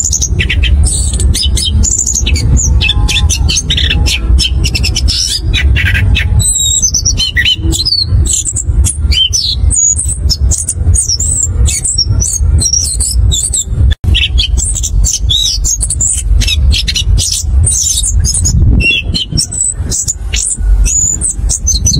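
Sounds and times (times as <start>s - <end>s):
low background rumble: 0.0s - 21.9s
thrush singing: 0.0s - 21.9s.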